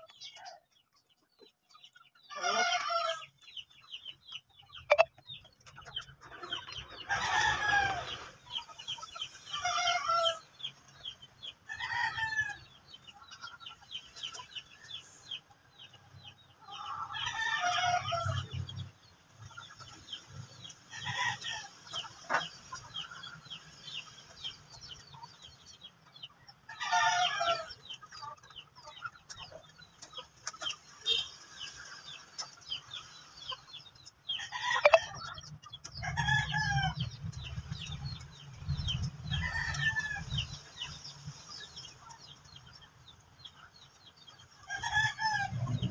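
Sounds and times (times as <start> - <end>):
hens clucking: 0.0 - 45.9.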